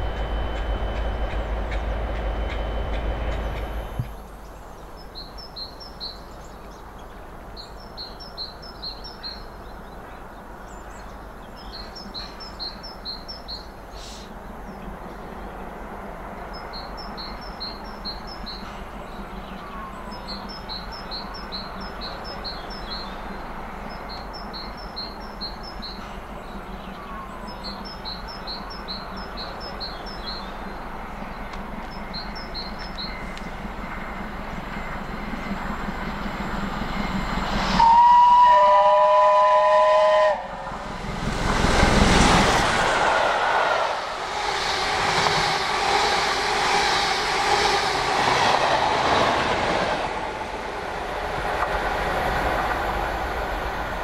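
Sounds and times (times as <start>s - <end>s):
songbird singing: 0.0s - 49.3s
outdoor background: 0.0s - 54.0s
train running on tracks: 0.0s - 54.0s.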